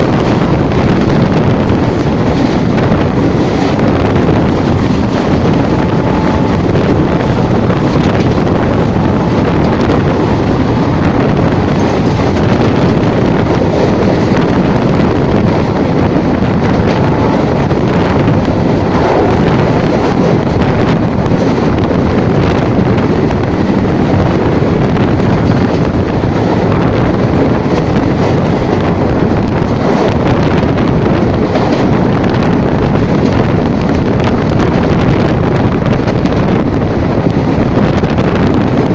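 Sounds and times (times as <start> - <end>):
moving train running: 0.0 - 38.9
wind buffeting microphone: 0.0 - 38.9.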